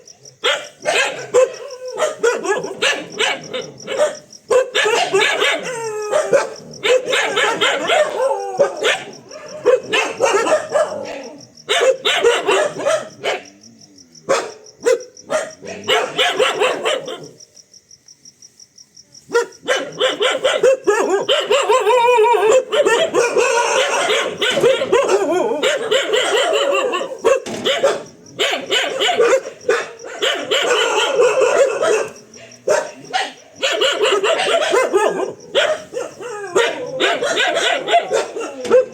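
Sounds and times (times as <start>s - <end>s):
dog barking angrily: 0.4s - 13.6s, 14.2s - 17.4s, 19.3s - 38.9s.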